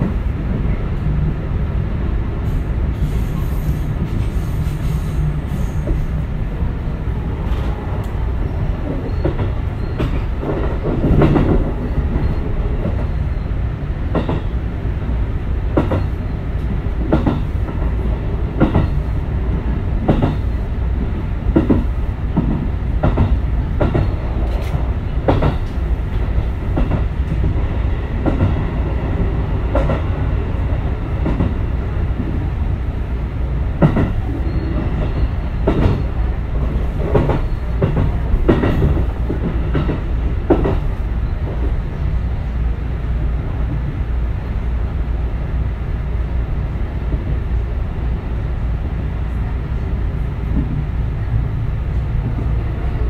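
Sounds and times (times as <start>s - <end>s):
train low rumble: 0.0s - 53.0s.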